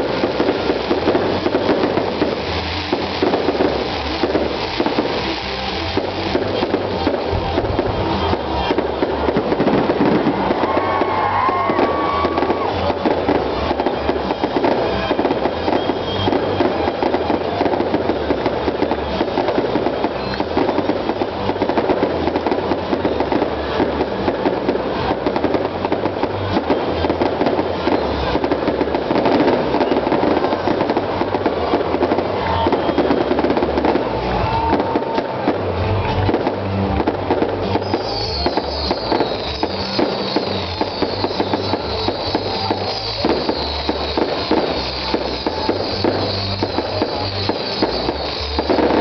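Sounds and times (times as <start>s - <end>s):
faint firework whistles: 0.0s - 49.0s
fireworks crackling and popping: 0.0s - 49.0s.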